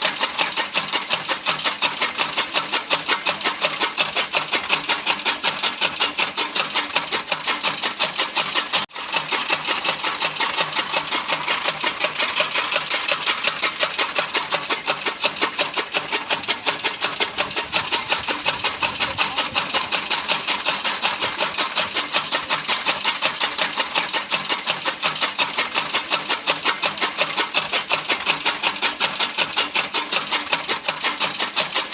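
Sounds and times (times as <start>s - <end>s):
chaff cutter running: 0.0s - 31.9s.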